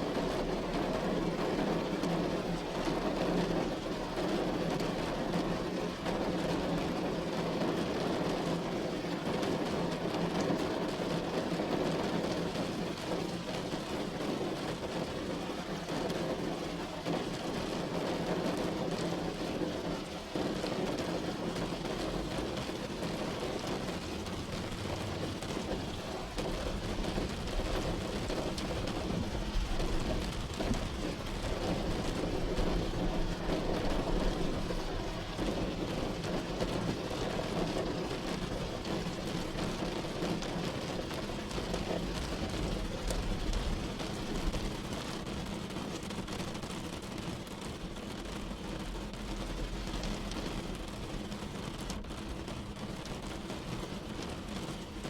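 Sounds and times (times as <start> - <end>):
rain pattering on a roof: 0.0 - 55.0.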